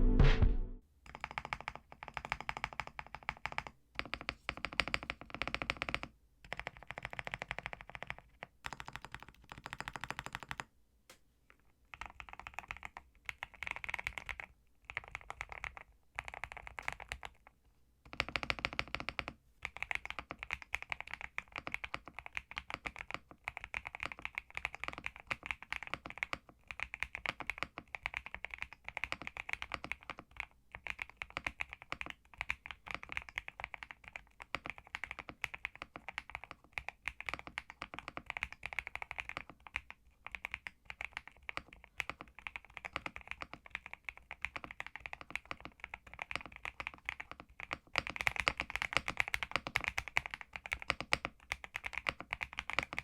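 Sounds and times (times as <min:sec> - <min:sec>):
mechanical keyboard typing: 0:01.1 - 0:10.7, 0:11.9 - 0:17.5, 0:18.1 - 0:53.0.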